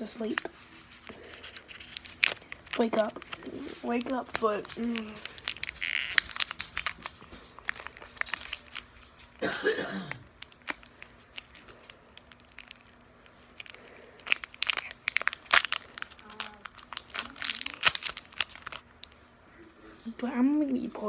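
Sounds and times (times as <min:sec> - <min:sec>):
plastic wrapper crinkling: 0:00.0 - 0:09.4, 0:10.1 - 0:19.3.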